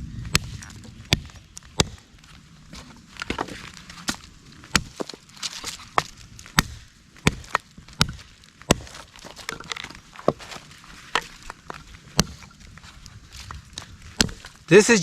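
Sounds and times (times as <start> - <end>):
hatchet chopping wood: 0.2 - 2.1, 2.7 - 12.6, 13.4 - 14.6.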